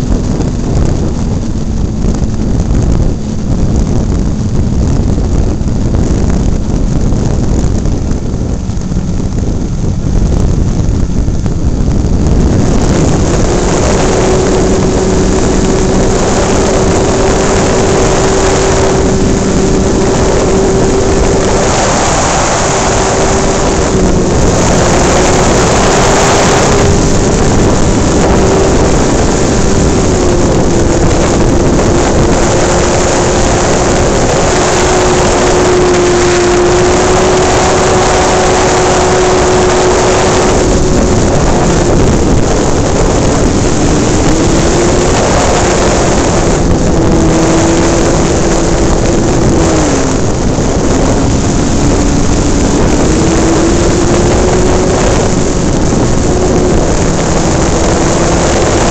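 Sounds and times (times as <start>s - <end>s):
wind rushing over camera: 0.0s - 58.9s.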